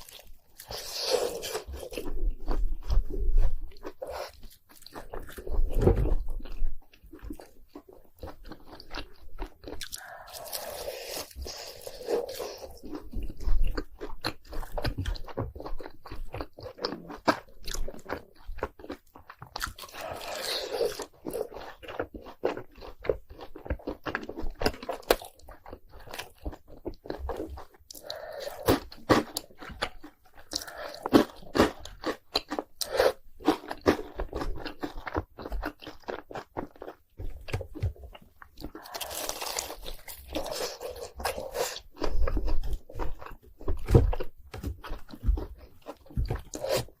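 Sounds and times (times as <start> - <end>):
crunchy biting and chewing: 0.0 - 47.0.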